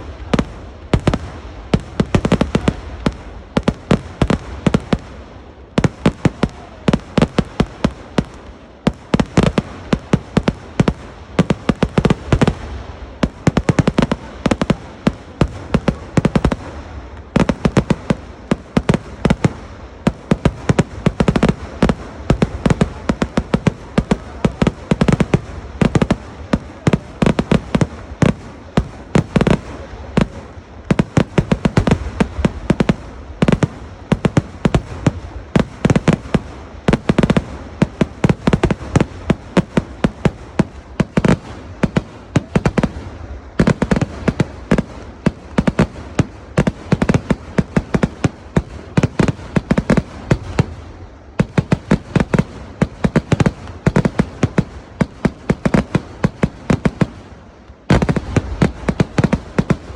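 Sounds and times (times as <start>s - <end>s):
fireworks barrage of bangs: 0.0s - 59.9s.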